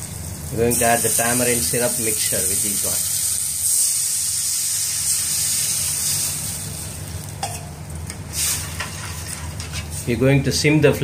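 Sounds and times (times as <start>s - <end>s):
gravy sizzling in hot oil: 0.0s - 10.2s
steady low hum: 0.0s - 11.0s.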